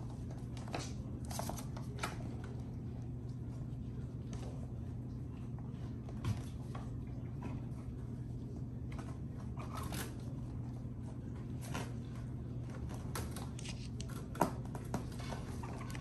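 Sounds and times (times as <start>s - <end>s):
kittens scratching and tapping: 0.0s - 16.0s
steady low hum: 0.0s - 16.0s.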